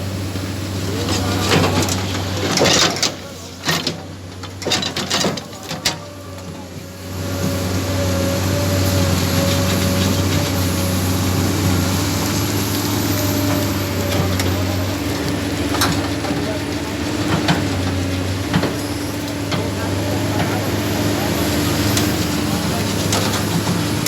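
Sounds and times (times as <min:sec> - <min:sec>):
construction machine engine running: 0:00.0 - 0:24.0.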